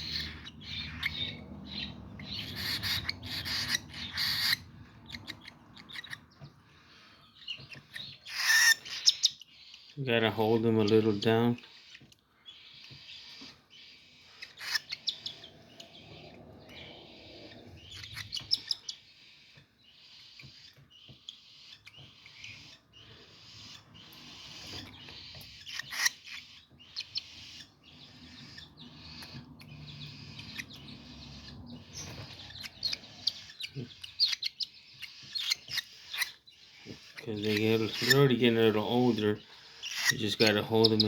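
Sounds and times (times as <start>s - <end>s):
cockatiel chicks begging calls: 0.0s - 41.0s.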